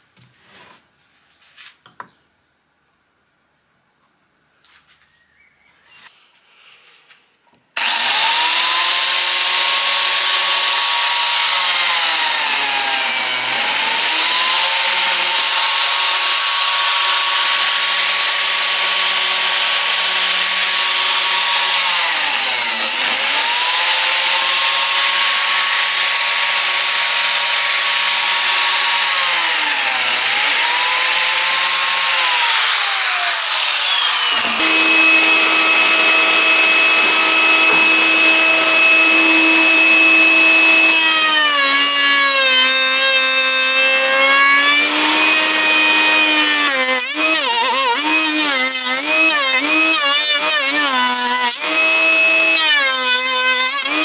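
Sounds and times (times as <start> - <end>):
biscuit joiner motor whining: 7.8 - 54.0.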